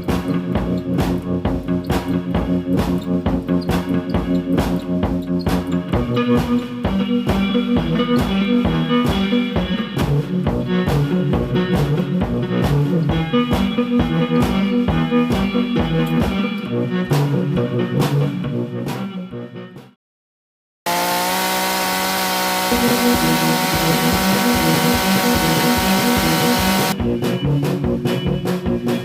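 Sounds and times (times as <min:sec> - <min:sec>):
electric guitar and drums music: 0:00.0 - 0:19.9, 0:20.9 - 0:29.0.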